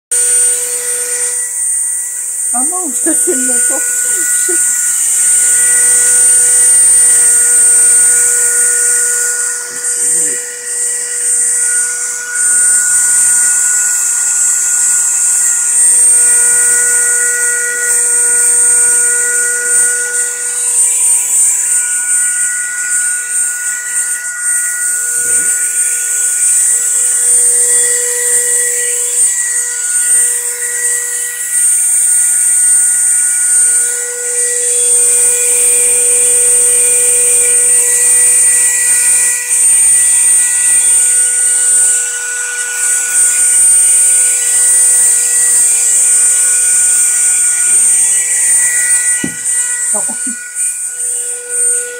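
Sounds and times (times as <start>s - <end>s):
rotary tool whining: 0.1s - 51.9s.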